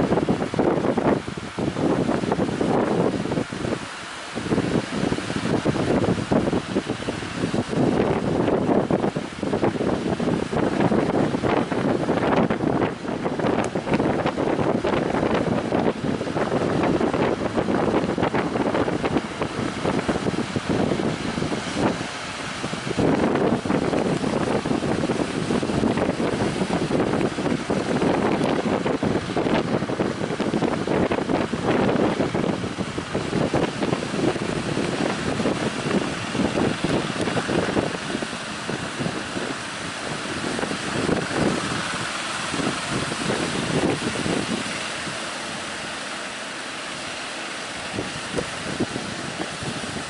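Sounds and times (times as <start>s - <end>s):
boat engine: 0.0s - 50.0s
sea surf rushing: 0.0s - 50.0s
waves breaking: 0.0s - 50.0s
wind buffeting microphone: 0.0s - 50.0s.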